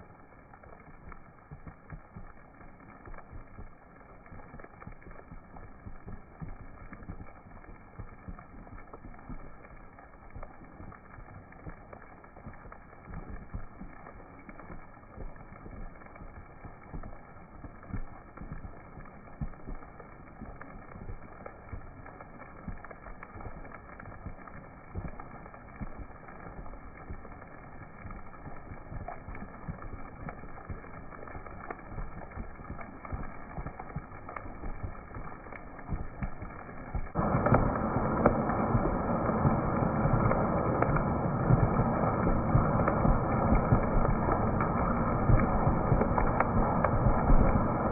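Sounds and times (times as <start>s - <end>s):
rain falling: 0.0s - 47.9s
raindrops ticking: 0.0s - 47.9s.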